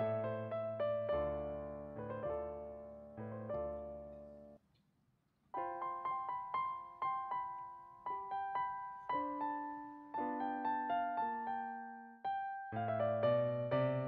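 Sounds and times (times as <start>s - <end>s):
solo piano chords: 0.0s - 4.6s, 5.6s - 14.0s.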